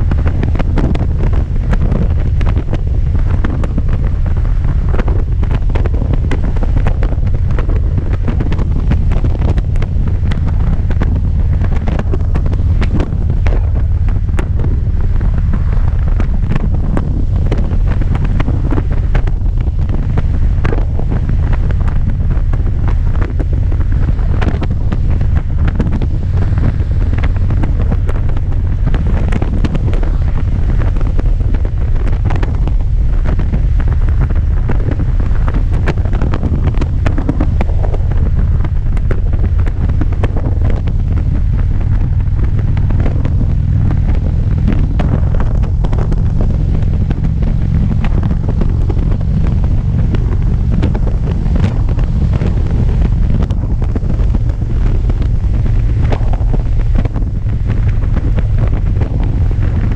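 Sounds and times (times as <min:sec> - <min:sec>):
motorcycle engine cruising: 0:00.0 - 0:59.9
wind buffeting microphone: 0:00.0 - 0:59.9.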